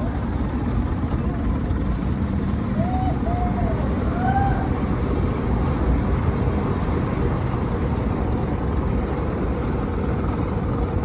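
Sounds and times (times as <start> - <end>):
boat motor rumble: 0.0 - 11.0
water noise: 0.0 - 11.0
wind noise: 0.0 - 11.0.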